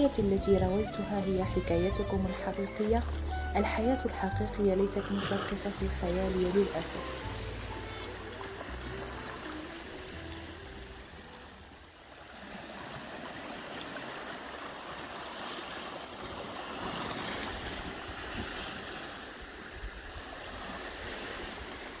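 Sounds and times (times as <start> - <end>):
sea waves washing in: 2.4 - 22.0.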